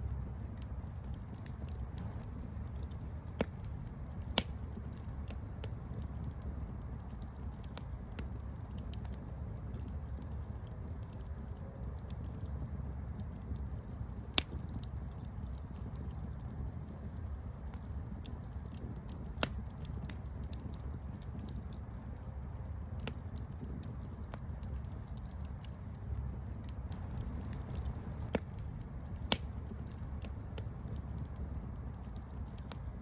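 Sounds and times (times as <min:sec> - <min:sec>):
campfire flames rumbling: 0:00.0 - 0:33.0
wood crackling and popping: 0:00.0 - 0:33.0.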